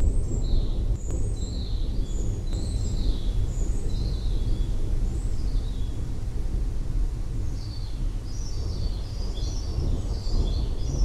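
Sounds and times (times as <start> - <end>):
storm rumble: 0.0 - 11.0.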